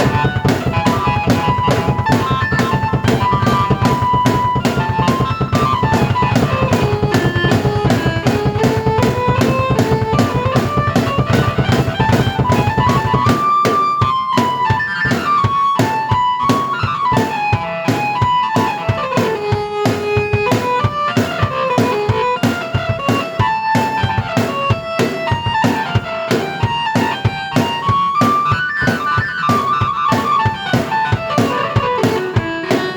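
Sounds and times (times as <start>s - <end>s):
drum beat: 0.0s - 32.9s
keyboard melody: 0.0s - 32.9s.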